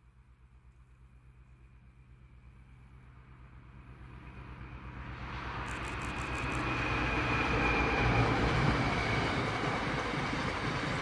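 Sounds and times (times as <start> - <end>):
train wheels rumbling on rail: 1.0 - 11.0.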